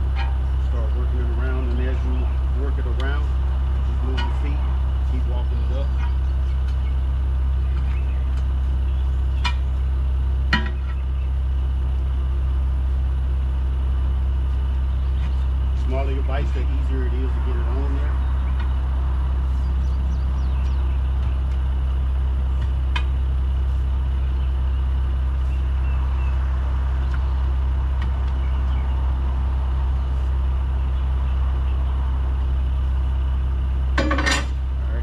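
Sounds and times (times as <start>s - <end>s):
tire iron clanking on rim: 0.0s - 35.0s
truck engine idling: 0.0s - 35.0s.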